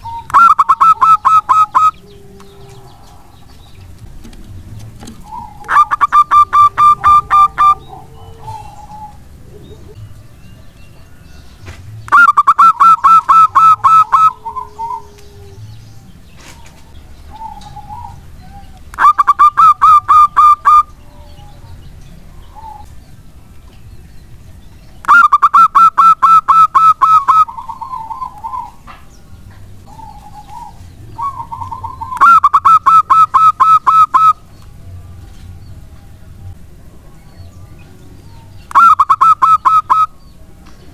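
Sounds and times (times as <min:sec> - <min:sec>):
dove staccato cooing: 0:00.0 - 0:10.0, 0:11.6 - 0:23.0, 0:25.0 - 0:34.5, 0:38.6 - 0:40.9.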